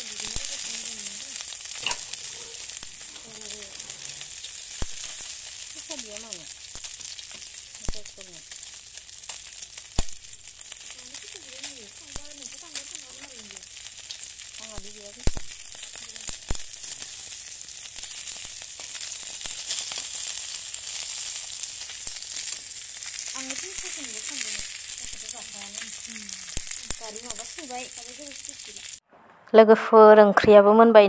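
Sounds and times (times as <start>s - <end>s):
food sizzling in a wok: 0.0s - 29.0s.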